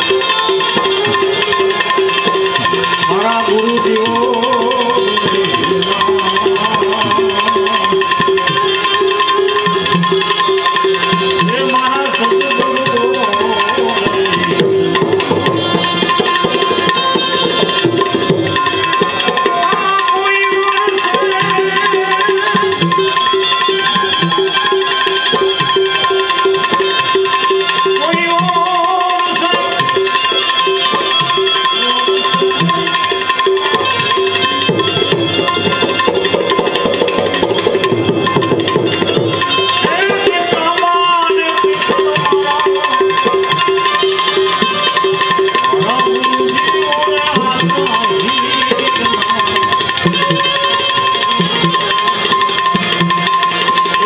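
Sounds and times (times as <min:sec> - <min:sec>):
melody line: 0:00.0 - 0:54.0
tabla playing a busy rhythm: 0:00.0 - 0:54.0.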